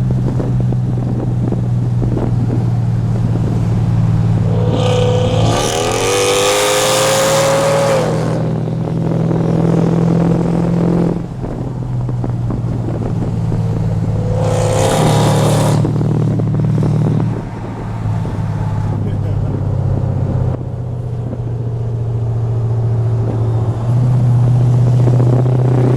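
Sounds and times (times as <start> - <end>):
car engine accelerating: 0.0 - 25.9
road and engine drone: 0.0 - 25.9.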